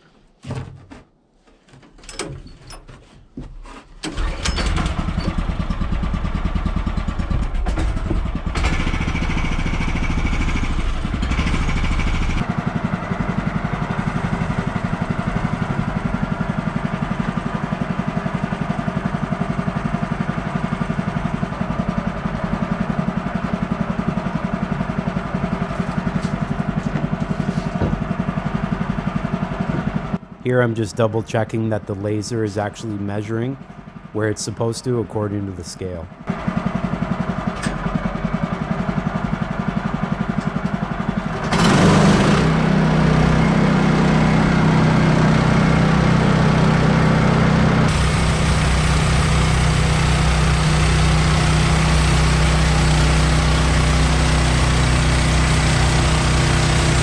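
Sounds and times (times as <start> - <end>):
gasoline engine starting and running: 4.0 - 57.0.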